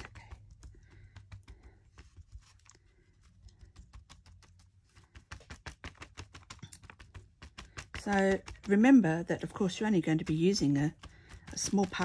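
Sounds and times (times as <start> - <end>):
faint tapping on tape: 0.0 - 12.0.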